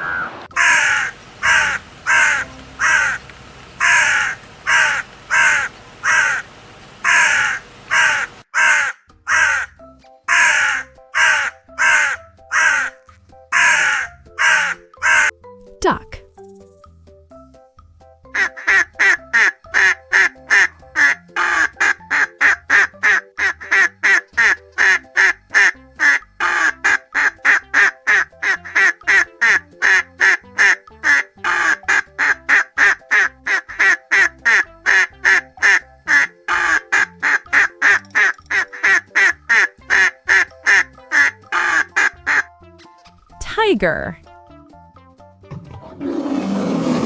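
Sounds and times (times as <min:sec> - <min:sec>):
duck quacking: 0:00.2 - 0:03.2, 0:03.8 - 0:15.3, 0:18.4 - 0:42.5.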